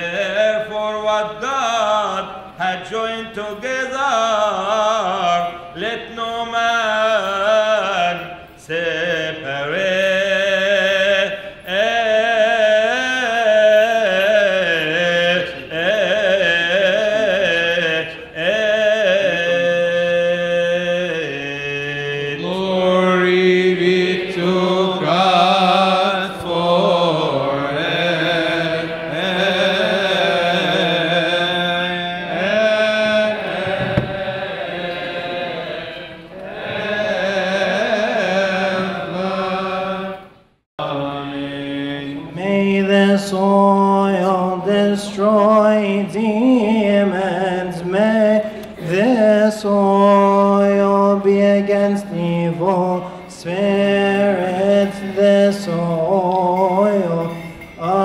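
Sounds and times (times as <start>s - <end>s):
men chanting a hymn: 0.0s - 58.0s.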